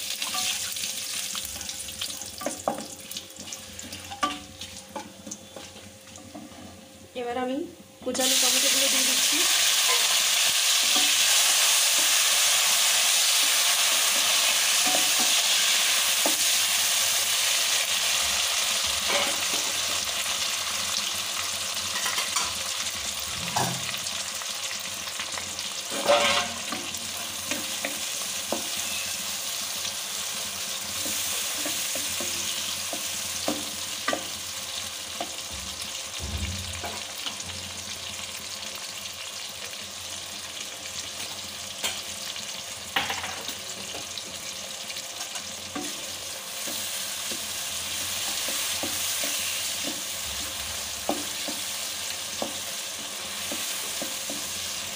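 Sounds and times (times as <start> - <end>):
tomatoes sizzling in oil: 0.0 - 54.9.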